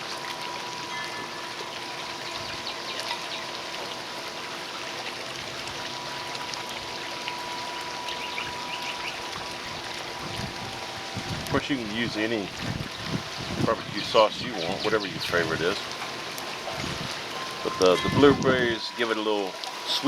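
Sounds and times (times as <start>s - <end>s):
faint steady hum: 0.0s - 20.0s
rushing noise like running water: 0.0s - 20.0s.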